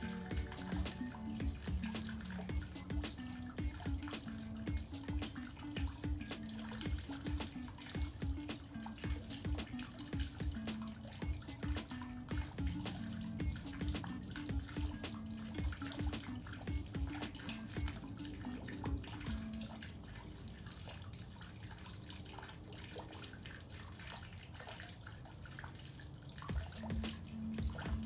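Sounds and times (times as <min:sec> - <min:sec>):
soft background music: 0:00.0 - 0:21.2, 0:25.5 - 0:28.0.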